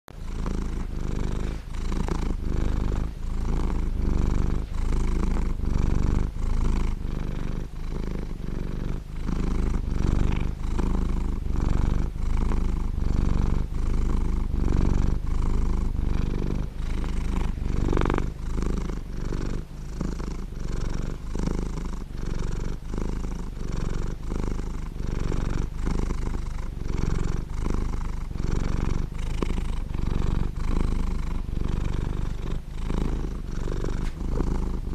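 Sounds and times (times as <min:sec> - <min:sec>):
cat purring loudly: 0:00.1 - 0:34.9.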